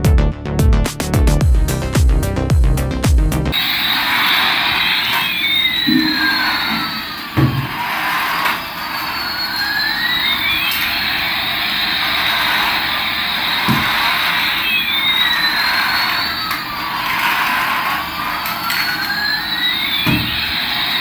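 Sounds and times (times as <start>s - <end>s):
electronic toy jet hiss: 3.6s - 21.0s.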